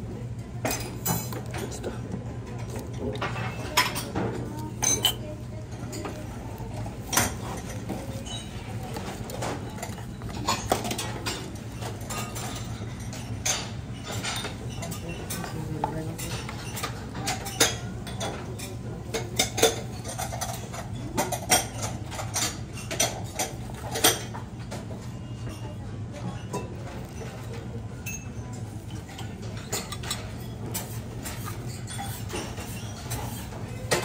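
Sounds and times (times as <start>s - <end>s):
cutlery and dishes clinking: 0.6s - 34.0s.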